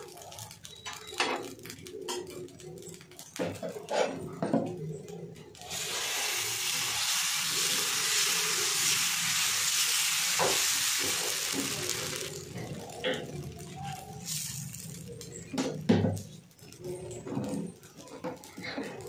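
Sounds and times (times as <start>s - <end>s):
batter sizzling on a hot pan: 0.0s - 19.0s.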